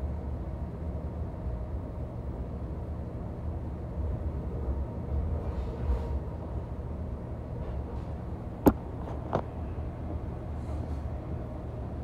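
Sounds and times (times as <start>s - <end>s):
train coach rumbling: 0.0s - 12.0s.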